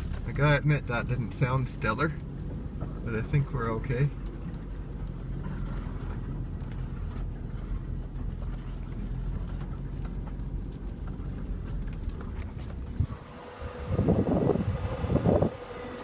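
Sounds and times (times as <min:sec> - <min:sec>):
car engine running at low speed: 0:00.0 - 0:16.0.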